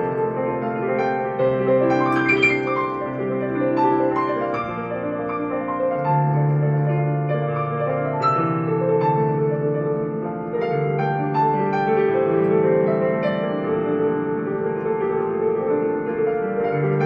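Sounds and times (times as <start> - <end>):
digital piano playing chords: 0.0 - 17.0.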